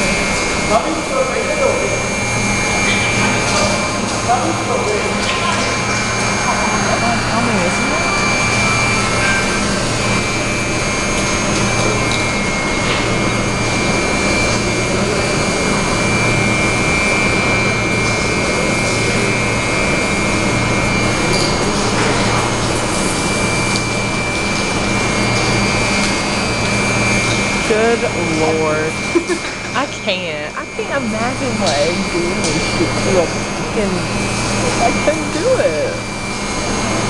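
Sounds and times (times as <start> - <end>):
high whine: 0.0 - 37.0
low hum: 0.0 - 37.0.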